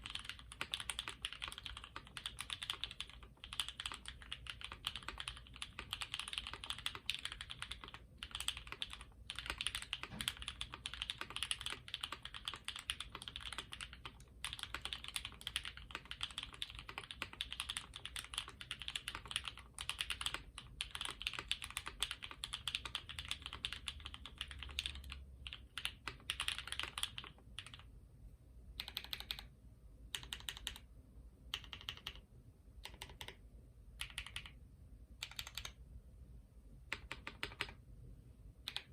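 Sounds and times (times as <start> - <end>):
mechanical keyboard typing: 0.0 - 27.9, 28.8 - 29.5, 30.1 - 30.9, 31.5 - 32.2, 32.8 - 33.4, 34.0 - 34.6, 35.2 - 35.8, 36.9 - 37.8, 38.6 - 38.9.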